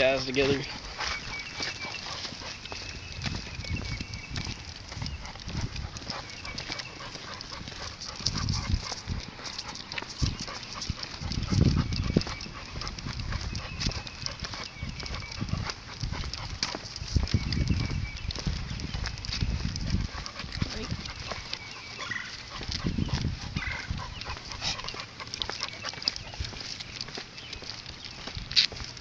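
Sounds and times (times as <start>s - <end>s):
footsteps on asphalt: 0.0s - 29.0s.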